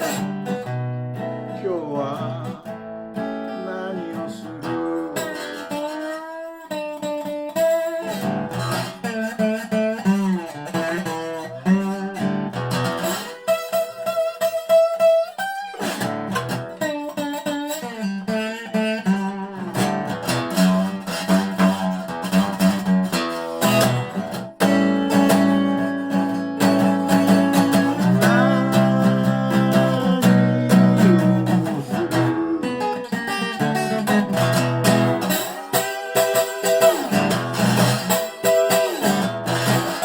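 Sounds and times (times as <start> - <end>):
slide guitar playing: 0.0 - 40.0.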